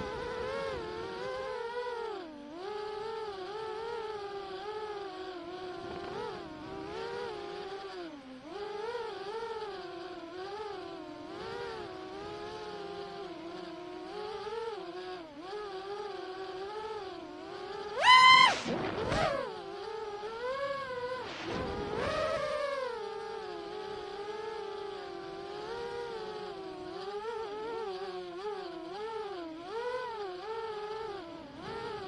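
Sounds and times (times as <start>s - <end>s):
motorcycle engine revving: 2.7s - 32.0s.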